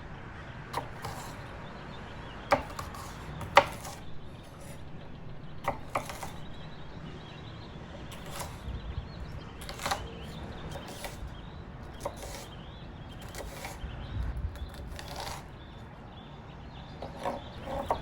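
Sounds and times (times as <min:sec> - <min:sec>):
faint bird chirps: 0:00.4 - 0:18.0.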